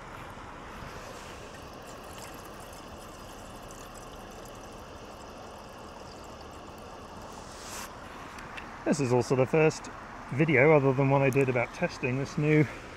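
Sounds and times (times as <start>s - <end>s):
river water flowing over rocks: 0.0s - 11.8s.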